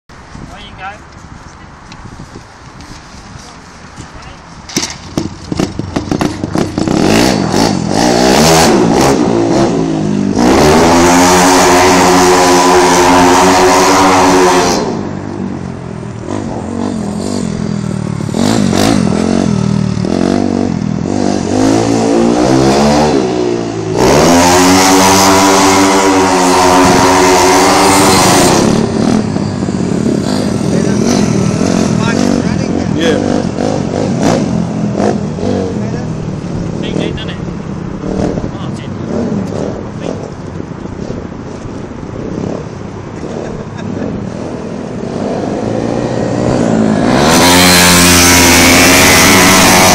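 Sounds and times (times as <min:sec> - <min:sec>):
motorcycle engine popping and revving: 0:04.0 - 0:49.9.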